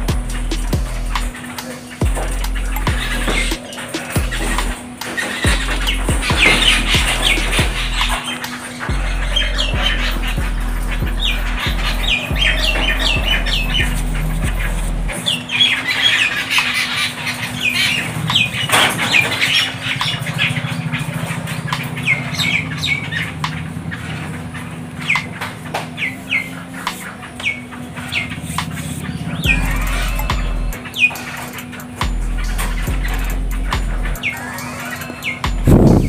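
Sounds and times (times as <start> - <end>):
birds giving harsh squeaky calls: 0.0 - 36.0.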